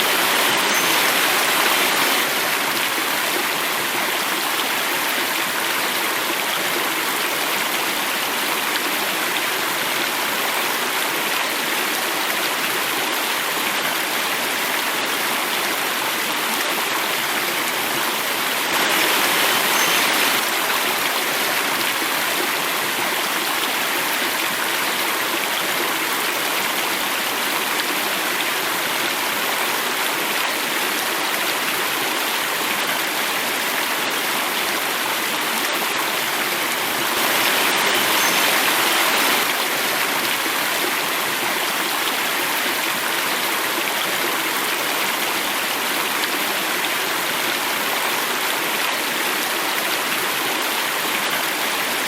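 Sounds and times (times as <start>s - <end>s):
stream water rushing over rocks: 0.0s - 52.0s.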